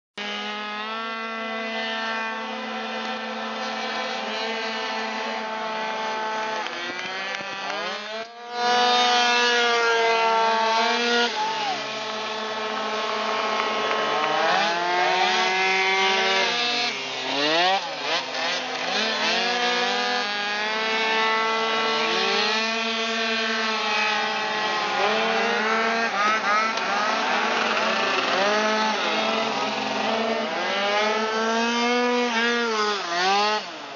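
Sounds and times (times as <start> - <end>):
scooter engines buzzing: 0.2 - 33.9.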